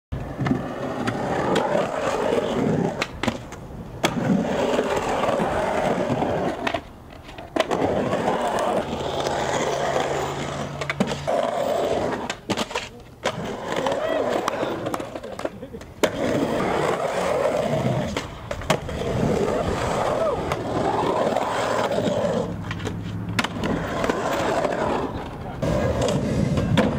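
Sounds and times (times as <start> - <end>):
skateboard wheels rolling on concrete: 0.1 - 26.9
skateboard clacking on concrete: 0.2 - 26.9.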